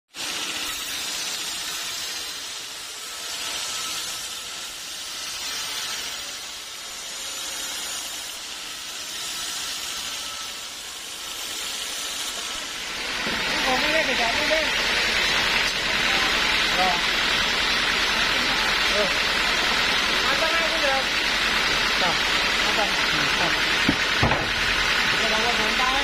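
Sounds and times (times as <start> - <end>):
saw blade cutting log: 0.2 - 26.0.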